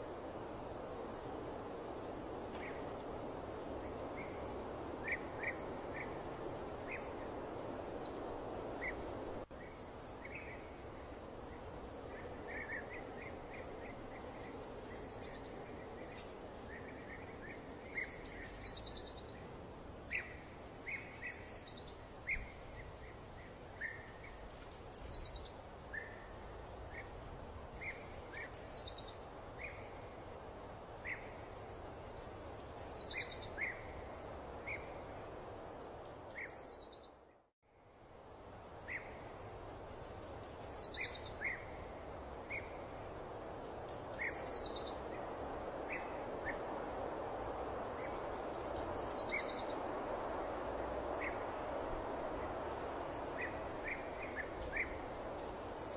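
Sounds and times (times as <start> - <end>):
steady background hiss: 0.0 - 55.9.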